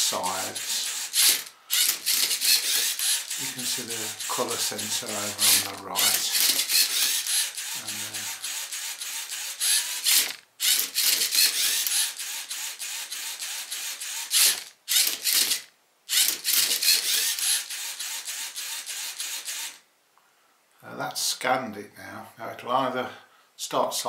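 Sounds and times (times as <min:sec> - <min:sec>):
robot gears rattling and whirring: 0:00.3 - 0:19.7.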